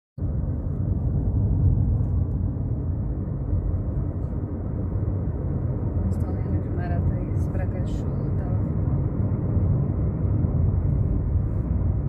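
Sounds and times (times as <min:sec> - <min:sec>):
engine and tyre rumble: 0:00.2 - 0:12.0.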